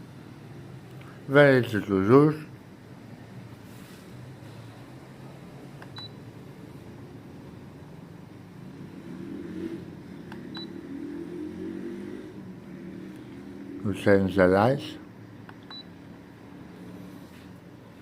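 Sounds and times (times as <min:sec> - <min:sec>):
low steady background hum: 0:00.0 - 0:18.0.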